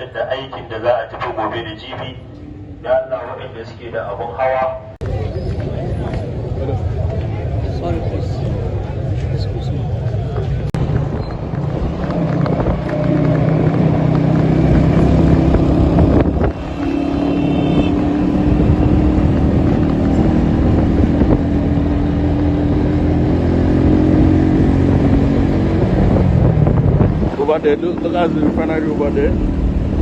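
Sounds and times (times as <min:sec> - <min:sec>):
vehicle engine running: 0:05.0 - 0:30.0.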